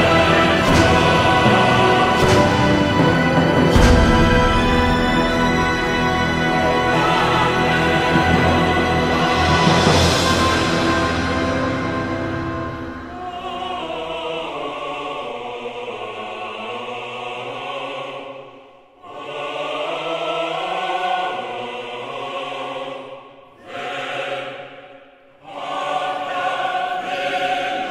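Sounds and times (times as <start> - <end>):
choir singing sustained chords: 0.0 - 27.9.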